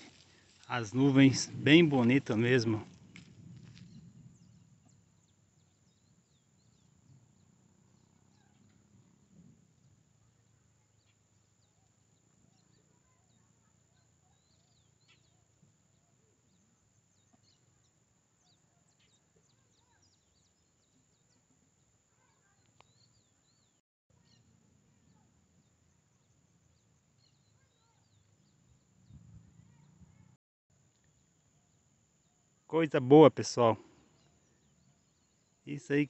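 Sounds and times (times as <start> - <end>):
distant bird chirps: 0.0 - 30.3.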